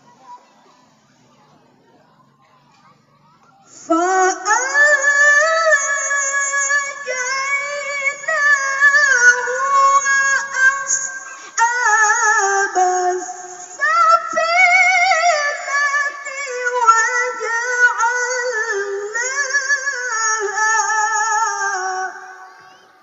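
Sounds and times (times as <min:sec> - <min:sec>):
woman reciting melodically: 0:00.0 - 0:23.0.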